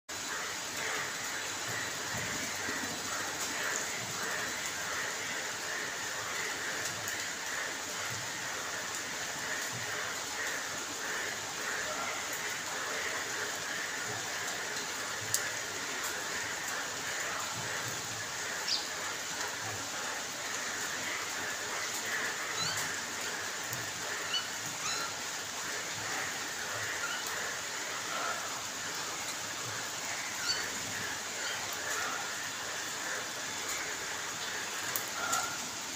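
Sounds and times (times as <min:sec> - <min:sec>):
rain on wet paving: 0:00.1 - 0:35.9.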